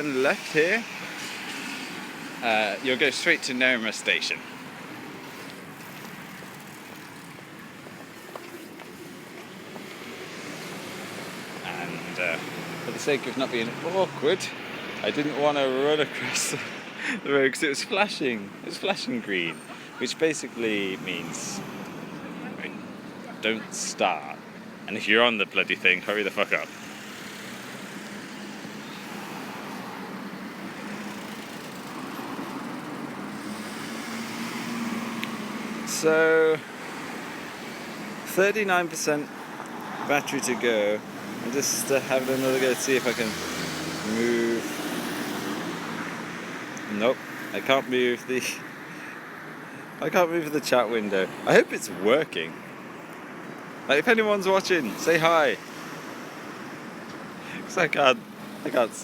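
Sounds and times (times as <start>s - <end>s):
cars passing: 0.0s - 59.0s
traffic hum: 0.0s - 59.0s.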